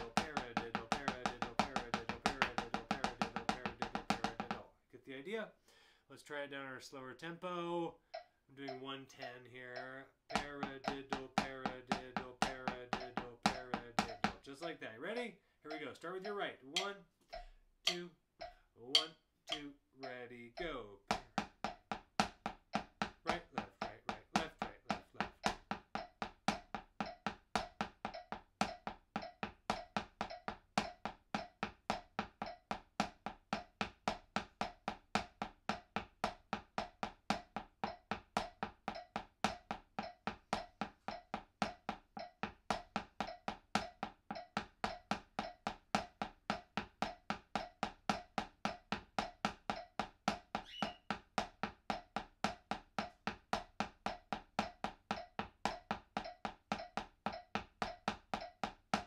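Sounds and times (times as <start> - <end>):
drumsticks on practice pad: 0.0 - 4.6, 8.1 - 34.9, 35.7 - 59.0.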